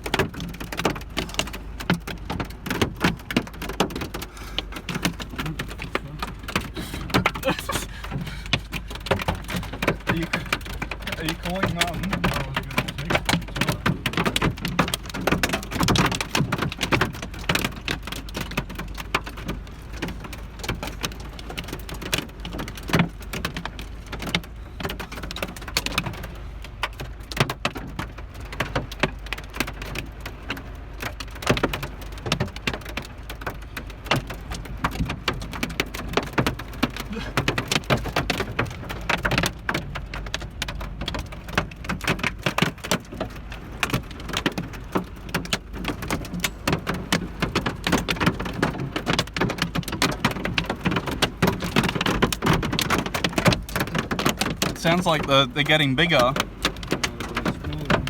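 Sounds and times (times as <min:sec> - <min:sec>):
hail clattering on metal roof: 0:00.0 - 0:58.0
rain rushing: 0:00.0 - 0:58.0.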